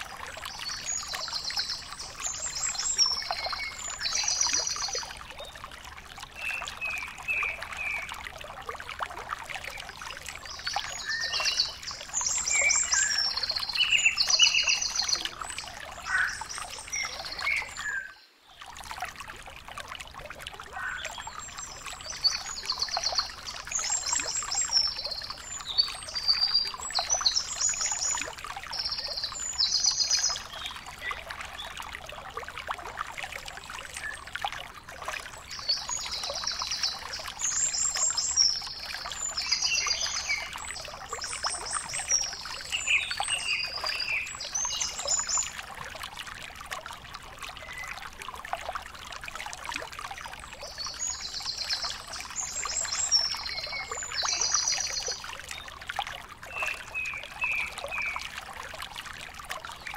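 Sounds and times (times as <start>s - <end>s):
steady crackling trickling noise: 0.0s - 59.9s.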